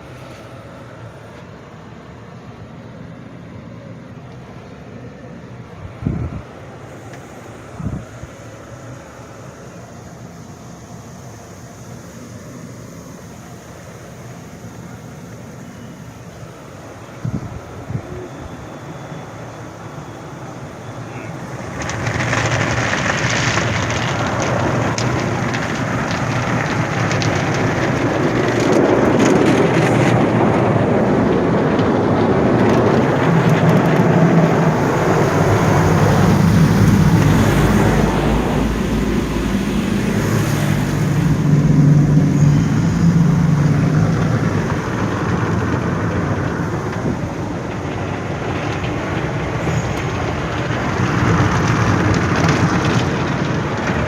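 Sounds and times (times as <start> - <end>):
car wash machinery: 0.0 - 54.0
low motor hum: 0.0 - 54.0
water spraying: 4.4 - 54.0.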